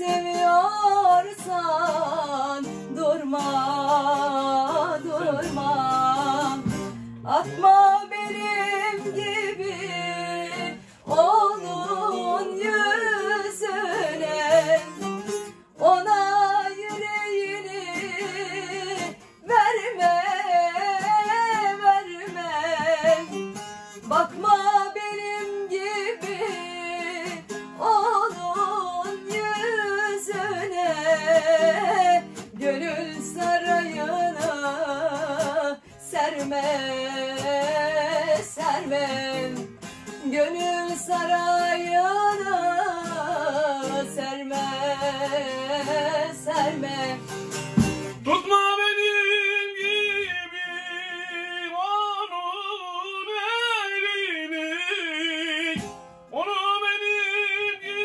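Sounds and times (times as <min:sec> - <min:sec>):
plucked long-necked lute: 0:00.0 - 0:48.6
woman singing folk song: 0:00.0 - 0:58.0.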